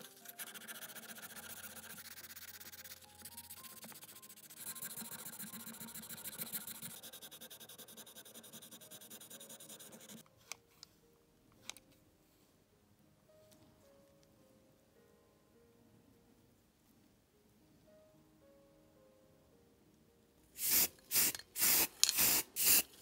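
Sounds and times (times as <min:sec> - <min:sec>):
faint background music: 0:00.0 - 0:23.0.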